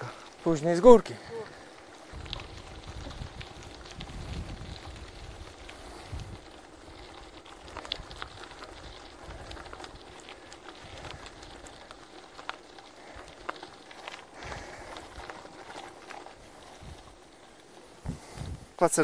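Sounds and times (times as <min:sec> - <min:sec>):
bicycle crunching on gravel: 0:00.0 - 0:19.0.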